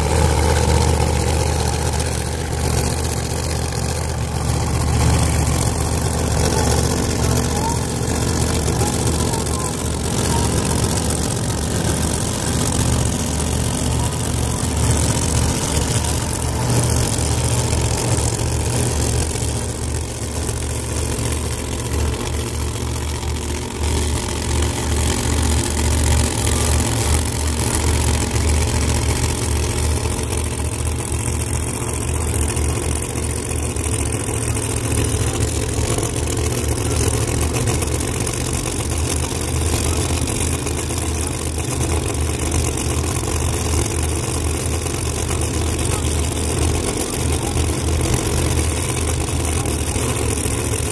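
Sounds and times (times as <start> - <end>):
drag car engines idling: 0.0 - 50.9.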